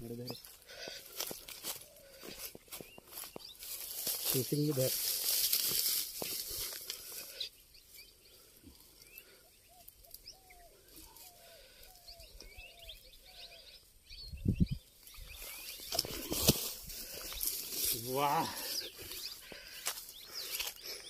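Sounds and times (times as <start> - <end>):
grass rustling: 0.0 - 13.6, 14.9 - 21.0
bird chirping: 1.8 - 4.7, 6.9 - 21.0.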